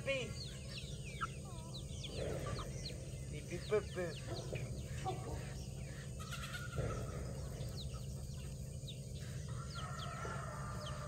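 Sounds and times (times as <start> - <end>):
steady low rumble: 0.0 - 9.8
birds chirping: 0.0 - 11.0.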